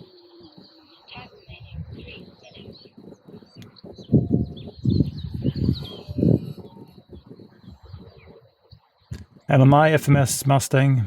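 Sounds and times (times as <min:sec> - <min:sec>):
birds chirping: 0:00.0 - 0:11.0
wind buffeting microphone: 0:00.0 - 0:11.0.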